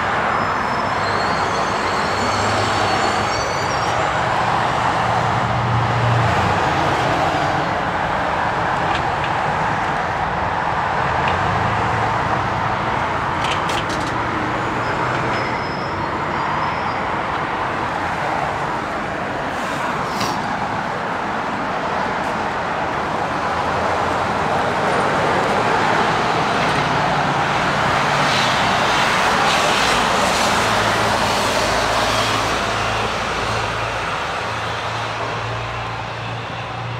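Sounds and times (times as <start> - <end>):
rushing road traffic: 0.0 - 36.9.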